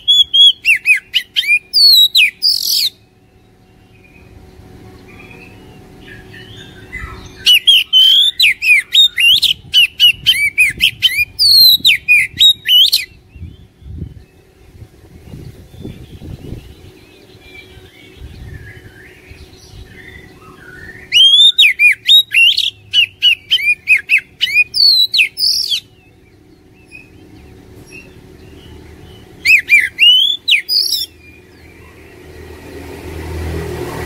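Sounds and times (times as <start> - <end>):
bird singing whistles and warbles: 0.0 - 4.4, 5.0 - 33.2.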